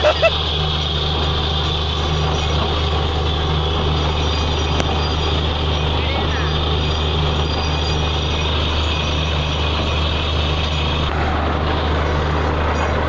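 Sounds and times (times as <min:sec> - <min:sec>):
deep engine drone: 0:00.0 - 0:13.0.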